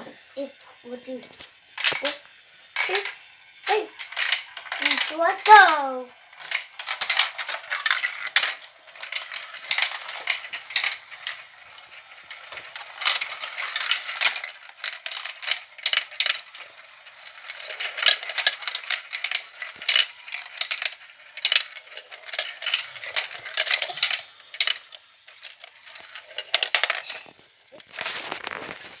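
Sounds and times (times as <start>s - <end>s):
marbles clattering down plastic track: 0.9s - 29.0s.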